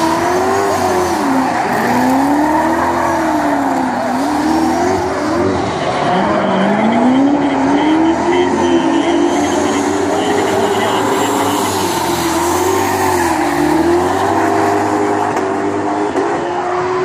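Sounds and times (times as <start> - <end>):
car engines revving: 0.0 - 17.0
tyres skidding and squealing: 0.0 - 17.0.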